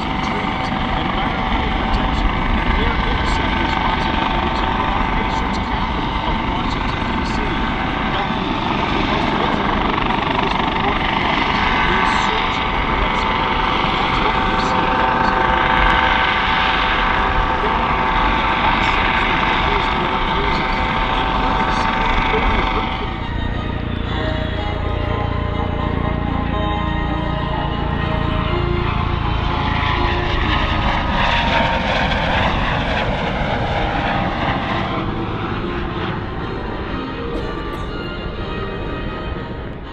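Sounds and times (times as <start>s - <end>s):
helicopter high whine: 0.0s - 39.9s
helicopter rotor noise: 0.0s - 39.9s.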